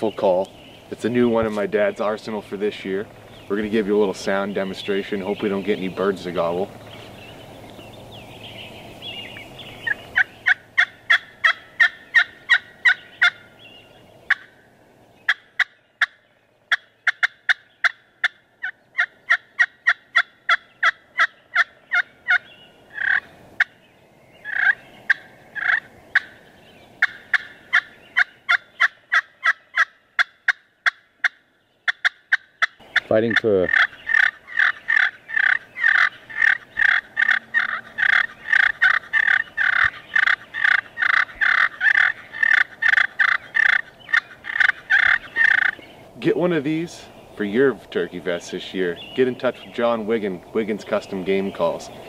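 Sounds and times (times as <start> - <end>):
turkey call notes: 0.0 - 23.8, 24.4 - 52.0.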